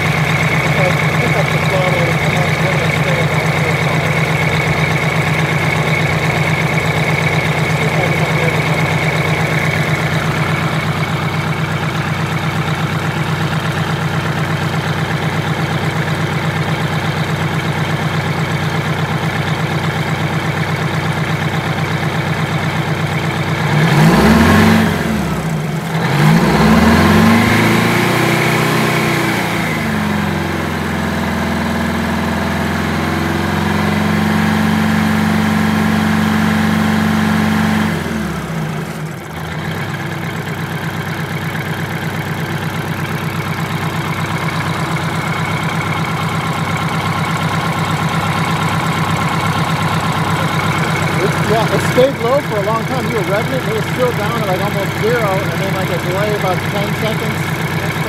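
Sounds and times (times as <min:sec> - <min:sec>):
diesel bus engine idling and revving: 0:00.0 - 0:58.0.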